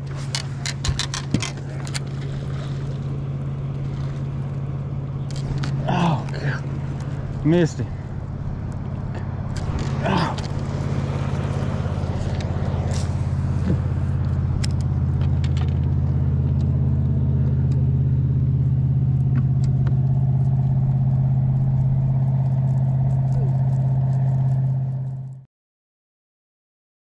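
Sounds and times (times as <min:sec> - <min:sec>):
boat motor humming: 0:00.0 - 0:25.4.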